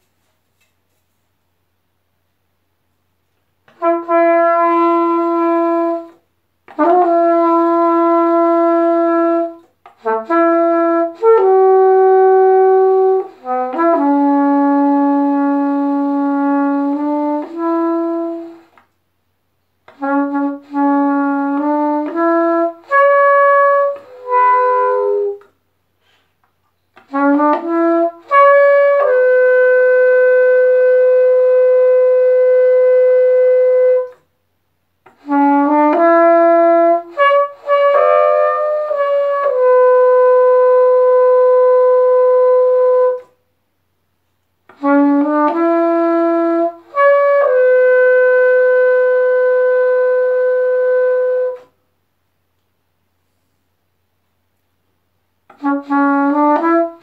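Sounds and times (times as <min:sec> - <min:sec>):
solo trumpet slow melody: 0:02.7 - 0:57.0.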